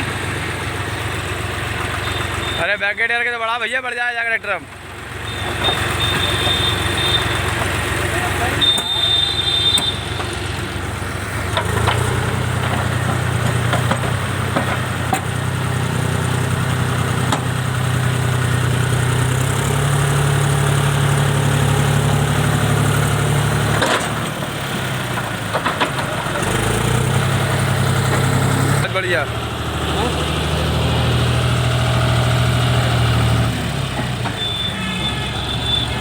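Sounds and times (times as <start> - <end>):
heavy diesel engine revving: 5.0 - 36.0.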